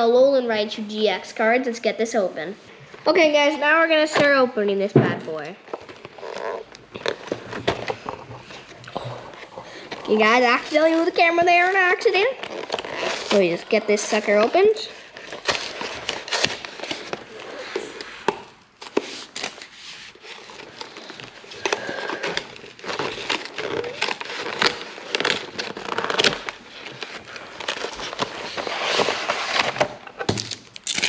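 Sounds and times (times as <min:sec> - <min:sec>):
packaging rustling and crinkling: 0:05.2 - 0:31.0.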